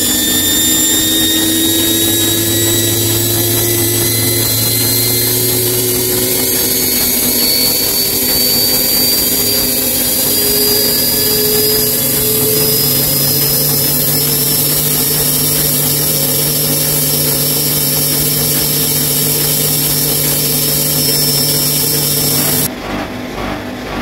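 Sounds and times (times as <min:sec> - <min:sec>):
high whine: 0:00.0 - 0:22.7
washing machine spinning: 0:00.0 - 0:24.0.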